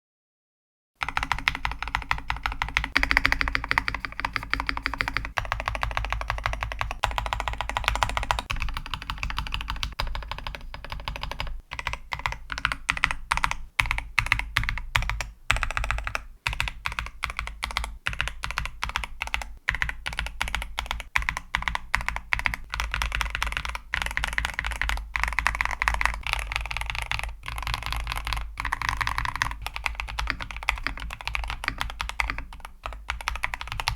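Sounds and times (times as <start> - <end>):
mechanical keyboard keystroke clacks: 1.0 - 33.9.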